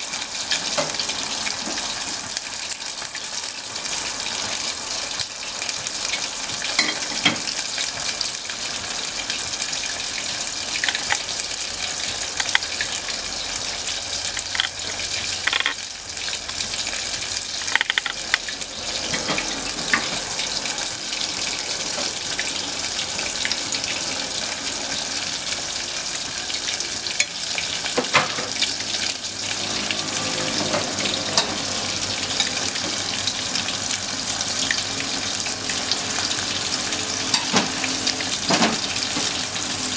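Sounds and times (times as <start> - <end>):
meat deep-frying in hot oil: 0.0 - 39.9
oil popping and crackling: 0.0 - 39.9.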